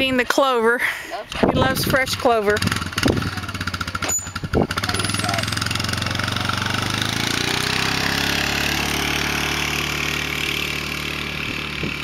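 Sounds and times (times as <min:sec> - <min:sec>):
atv engine idling: 0:01.2 - 0:12.0.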